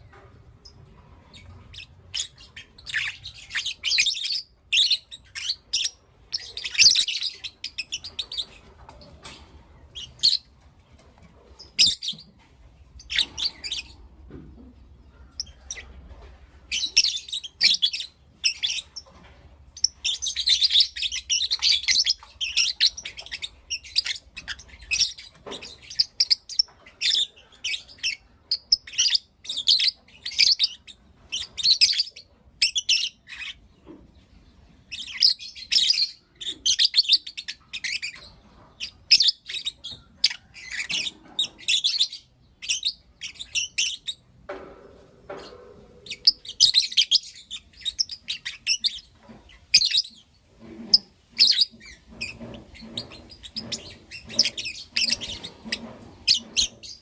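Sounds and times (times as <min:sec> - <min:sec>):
lovebirds chirping: 0:00.0 - 0:44.4, 0:45.0 - 0:57.0.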